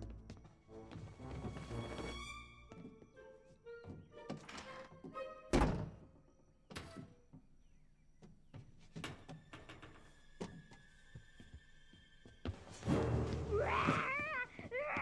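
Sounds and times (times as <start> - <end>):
film score with held notes: 0.0 - 9.4, 10.1 - 15.0.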